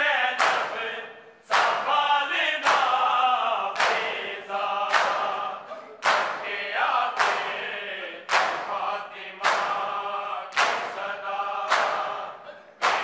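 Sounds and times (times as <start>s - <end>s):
men chanting a lament: 0.0s - 13.0s
men slapping chests in unison: 0.2s - 13.0s.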